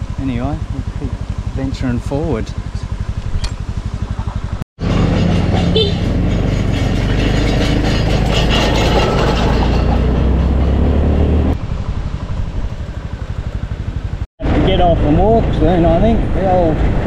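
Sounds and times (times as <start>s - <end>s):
motorbike engine climbing: 0.0s - 17.0s.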